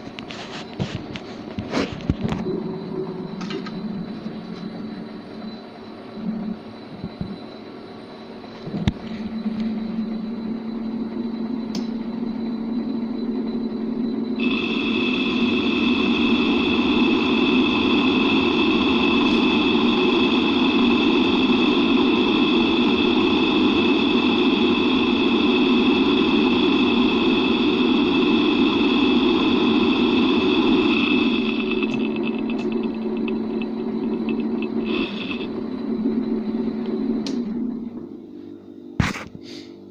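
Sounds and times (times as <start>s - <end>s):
lathe humming: 0.0s - 38.4s
high-pitched cutting whine: 0.0s - 39.2s.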